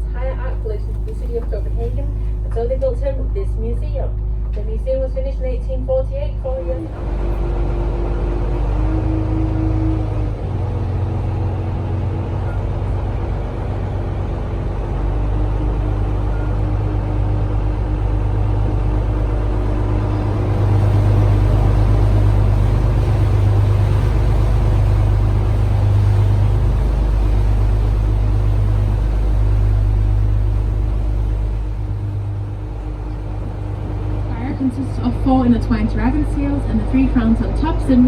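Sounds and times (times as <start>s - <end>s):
boat motor humming: 0.0s - 38.0s.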